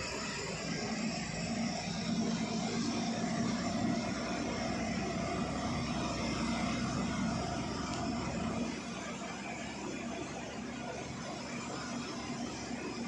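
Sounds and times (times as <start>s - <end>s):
diesel truck engine drone: 0.0s - 13.0s
road and wind noise: 0.0s - 13.0s.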